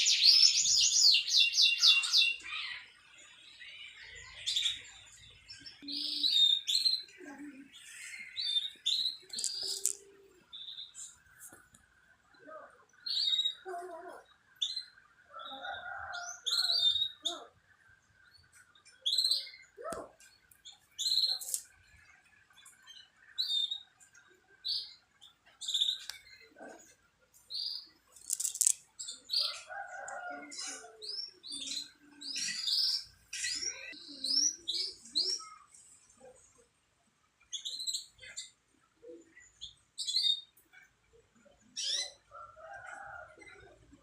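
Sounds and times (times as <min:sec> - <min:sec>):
canaries chirping: 0:00.0 - 0:11.7, 0:12.4 - 0:35.7, 0:37.5 - 0:41.0, 0:41.7 - 0:44.0.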